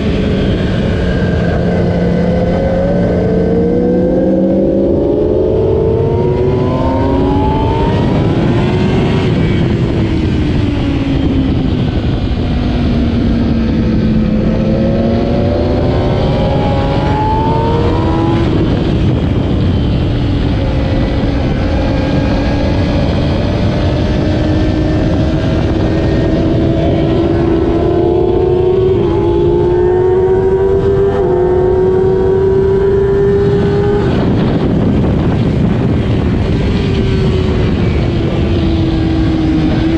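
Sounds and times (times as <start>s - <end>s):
motorcycle engine at racing speed: 0.0s - 39.9s
wind rush: 0.0s - 39.9s.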